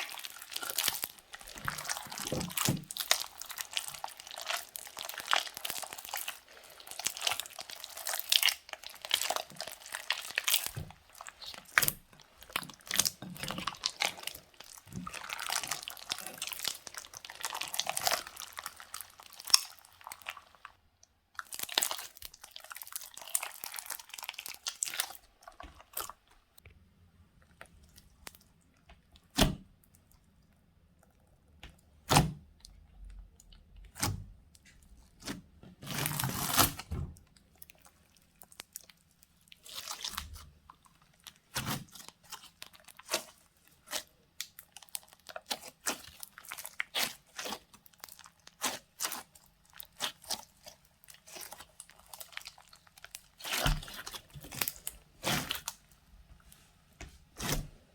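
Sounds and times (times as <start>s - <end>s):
crunchy slime squelching: 0.0s - 26.6s, 27.3s - 57.9s.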